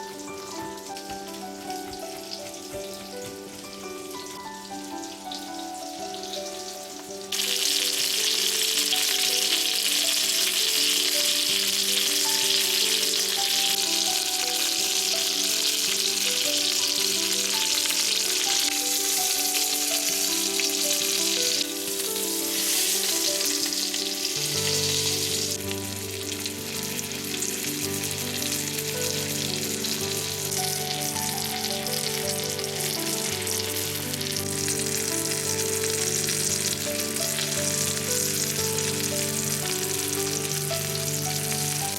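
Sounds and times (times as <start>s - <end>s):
background music: 0.0s - 41.9s
food sizzling in hot oil: 0.0s - 41.9s.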